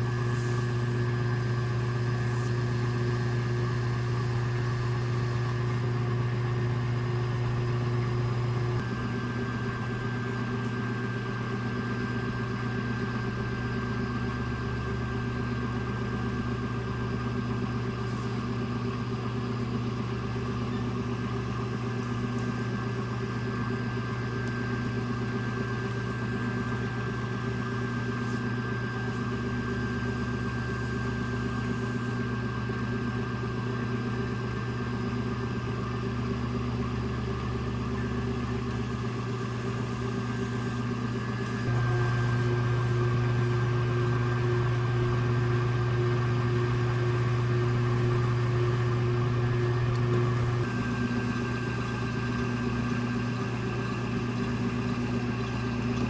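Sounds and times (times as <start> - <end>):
potter's wheel motor humming: 0.0 - 56.0.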